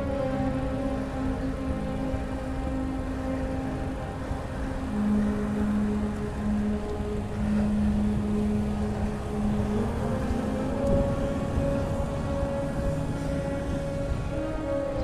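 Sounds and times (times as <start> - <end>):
bicycle tyre noise on pavement: 0.0 - 15.0
steady hum: 0.0 - 15.0
wind buffeting microphone: 0.0 - 15.0.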